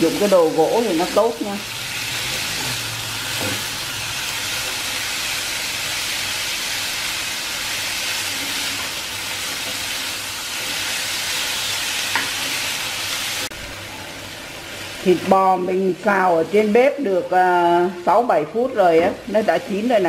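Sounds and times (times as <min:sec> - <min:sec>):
meat sizzling in oil: 0:00.0 - 0:17.8.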